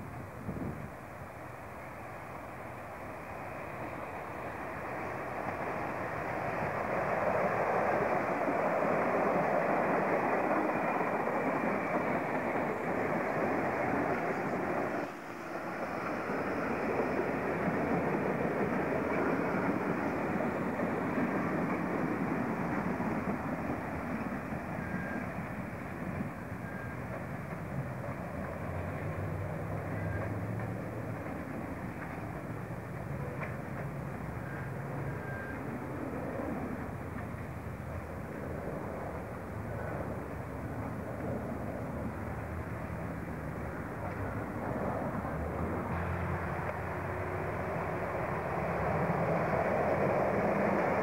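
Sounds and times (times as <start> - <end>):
electric train passing: 0.0 - 51.0.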